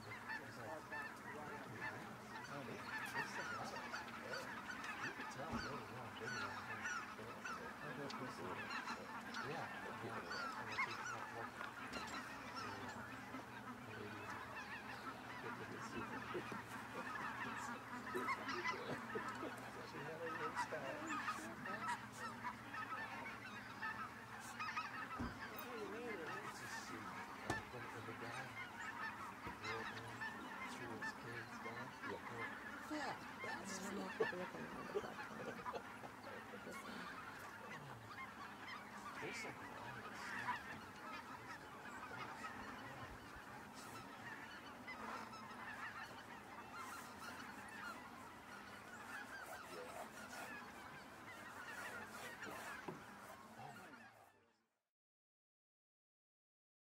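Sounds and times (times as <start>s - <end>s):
geese honking: 0.0s - 54.5s.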